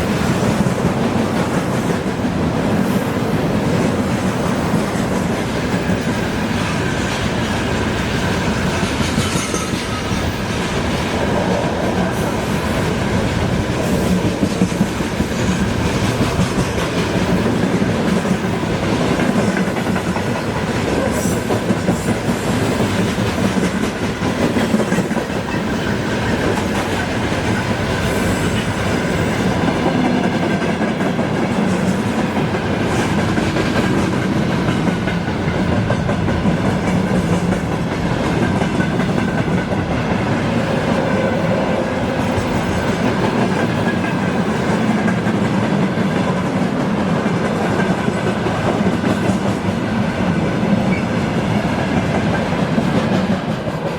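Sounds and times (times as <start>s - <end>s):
freight train wheels clattering: 0.0s - 53.9s.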